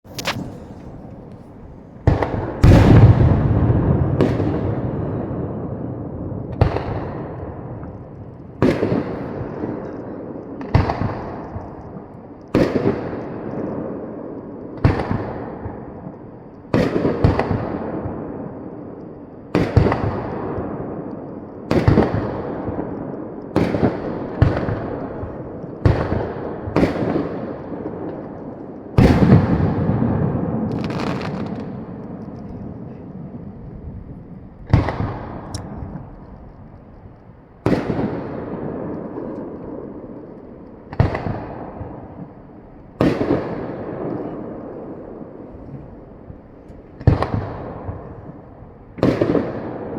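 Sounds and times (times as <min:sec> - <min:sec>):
fireworks bursting with echo: 0:00.0 - 0:49.9.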